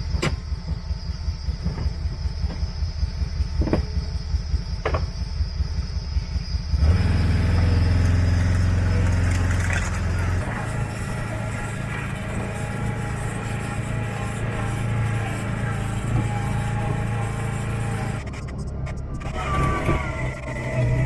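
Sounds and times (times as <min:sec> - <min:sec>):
vehicle engine rumbling: 0:00.0 - 0:21.0
thin high drone: 0:00.8 - 0:21.0.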